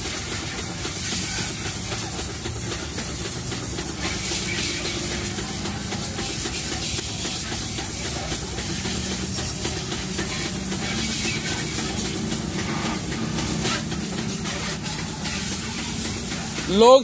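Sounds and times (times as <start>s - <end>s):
water splashing off motorcycle: 0.0s - 16.9s
pressure washer spray hissing: 0.0s - 17.0s.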